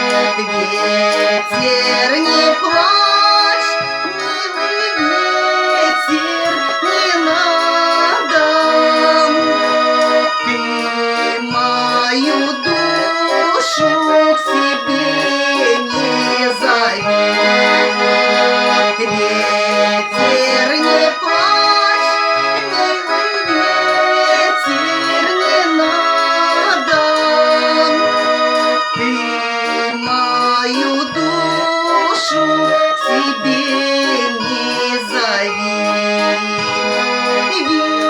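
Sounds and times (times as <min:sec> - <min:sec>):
button accordion folk melody: 0:00.0 - 0:38.0.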